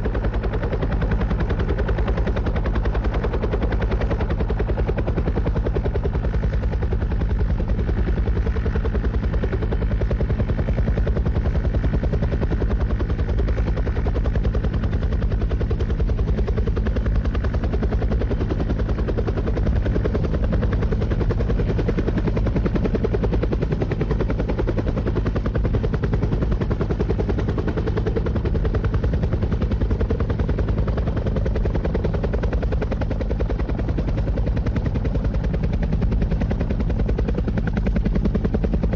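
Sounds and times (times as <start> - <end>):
helicopter rotor chopping: 0.0 - 38.9
turbine drone: 0.0 - 38.9.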